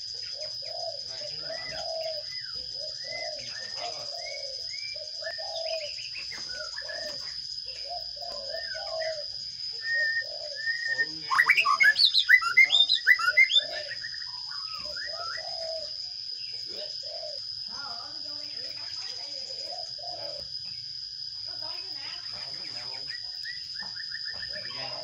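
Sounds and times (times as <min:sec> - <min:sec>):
nestlings chirping rapidly: 0:00.0 - 0:20.5, 0:21.6 - 0:25.0
low bird calls: 0:00.0 - 0:20.9, 0:21.9 - 0:25.0.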